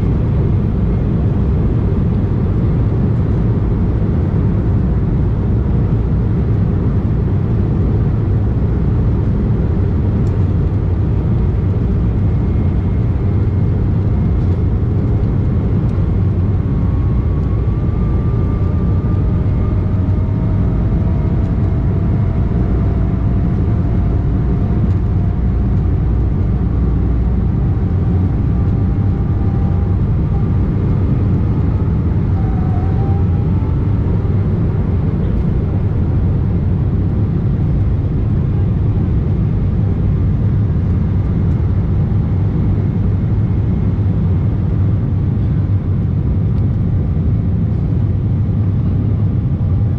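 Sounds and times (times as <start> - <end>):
jet engine and airflow rush: 0.0 - 49.9.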